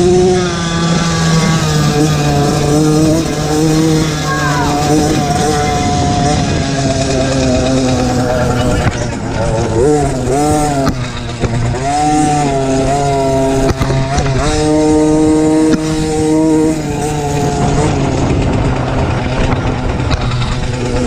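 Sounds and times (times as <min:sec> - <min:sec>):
minibike engine revving: 0:00.0 - 0:21.0.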